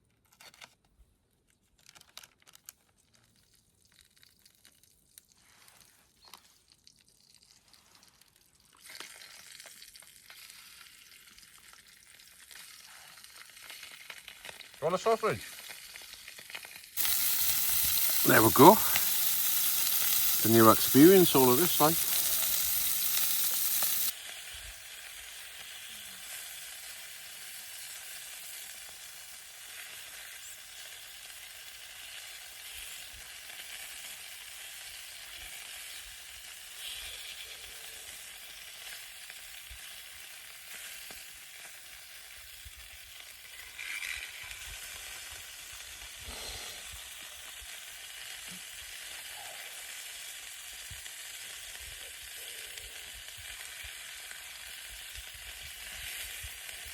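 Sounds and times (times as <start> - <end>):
sausages sizzling in a frying pan: 5.3 - 56.9.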